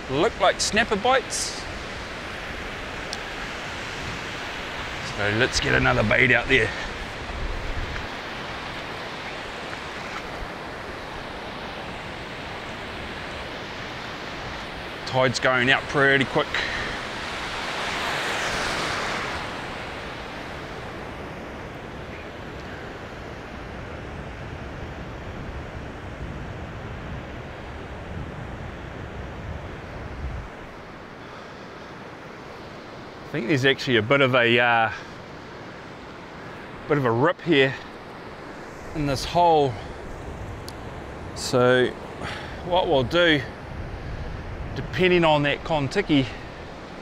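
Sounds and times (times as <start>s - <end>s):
low wind rumble: 0.0s - 34.1s, 34.9s - 47.0s
ocean surf breaking: 0.0s - 47.0s.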